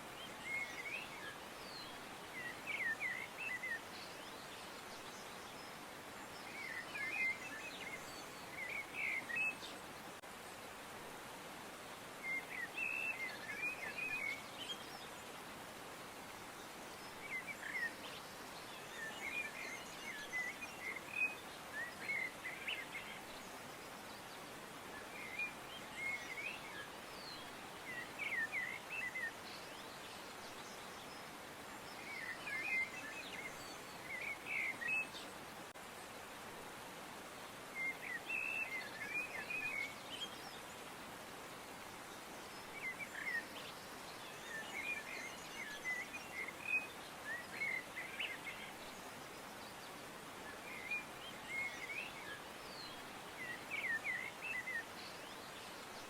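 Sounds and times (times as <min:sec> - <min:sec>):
background hiss: 0:00.0 - 0:56.0
songbirds chirping: 0:00.0 - 0:56.0.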